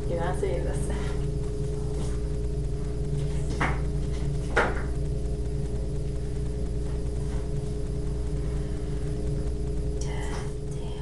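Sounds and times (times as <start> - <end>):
steady low hum with tones: 0.0 - 11.0.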